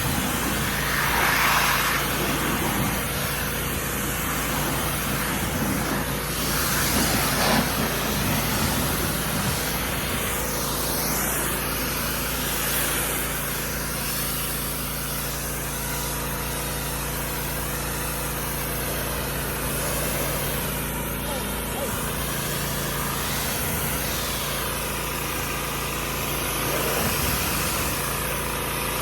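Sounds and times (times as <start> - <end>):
small engine humming: 0.0 - 29.0
water spray hissing: 0.0 - 29.0.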